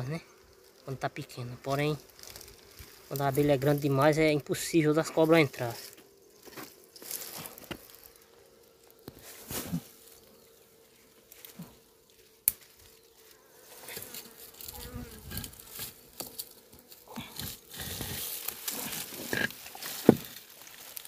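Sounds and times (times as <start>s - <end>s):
honeybees buzzing: 0.0s - 21.0s
rustling of dry leaves: 0.2s - 21.0s.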